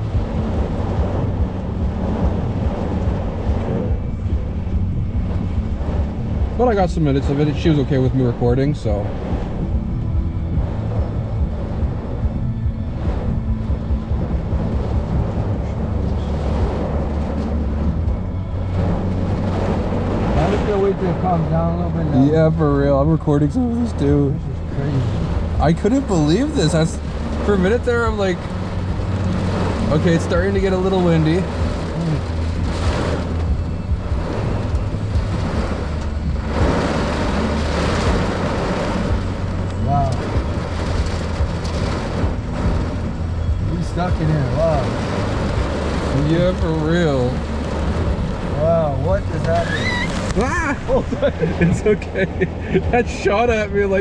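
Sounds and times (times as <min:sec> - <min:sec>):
gusting wind: 0:00.0 - 0:54.0
heavy rain pouring: 0:00.0 - 0:54.0
low rumble: 0:00.0 - 0:54.0.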